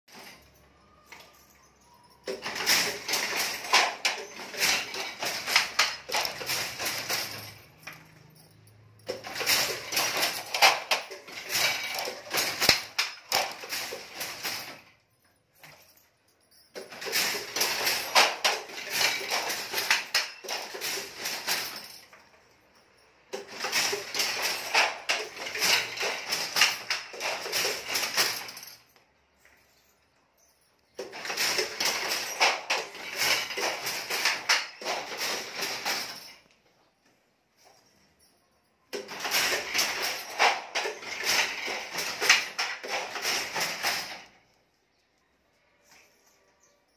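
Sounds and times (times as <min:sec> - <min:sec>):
handloom clattering: 0:00.1 - 0:29.6, 0:30.8 - 0:36.7, 0:38.9 - 0:44.7.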